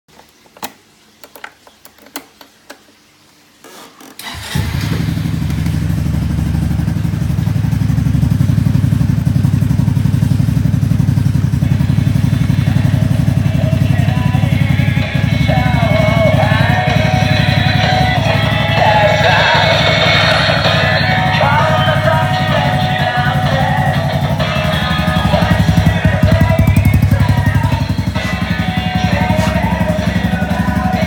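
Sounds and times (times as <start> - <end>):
scooter engine idling: 4.2 - 31.0.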